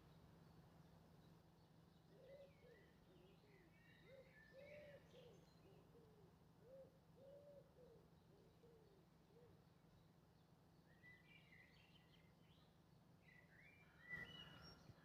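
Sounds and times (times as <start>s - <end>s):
low arching birdsong: 0.0s - 15.0s.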